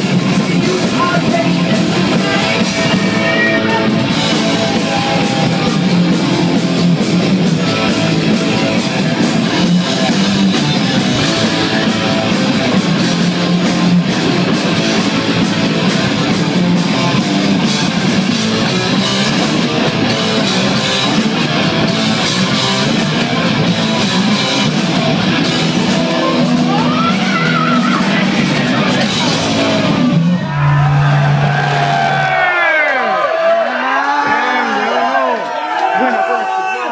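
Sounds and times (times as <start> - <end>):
pounding drums: 0.0 - 32.4
distorted electric guitars: 0.0 - 33.0
bass guitar: 0.0 - 33.6.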